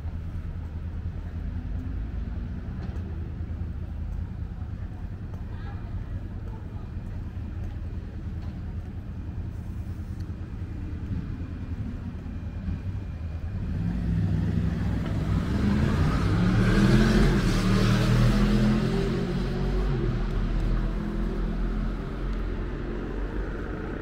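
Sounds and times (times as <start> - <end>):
low traffic hum: 0.0 - 24.0
vehicle engine and tyre noise: 0.0 - 24.0.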